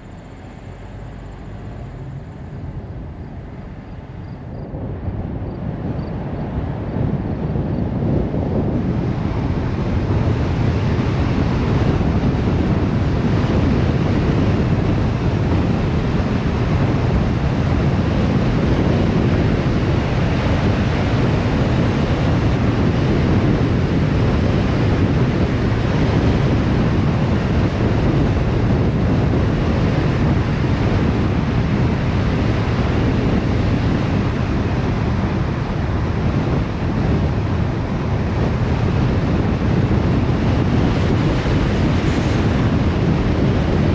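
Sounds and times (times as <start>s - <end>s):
car road and wind noise: 0.0s - 43.9s.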